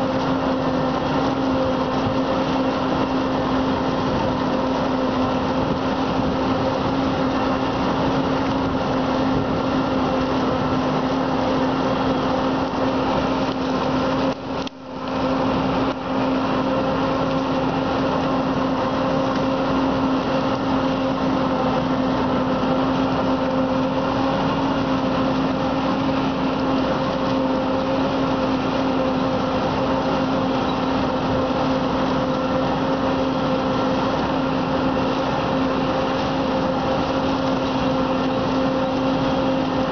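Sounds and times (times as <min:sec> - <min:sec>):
harvester machine drone: 0:00.0 - 0:39.9.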